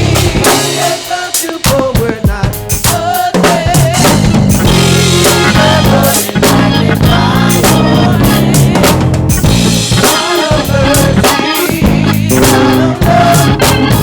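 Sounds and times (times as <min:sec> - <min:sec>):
drum kit: 0:00.0 - 0:14.0
gospel band playing: 0:00.0 - 0:14.0.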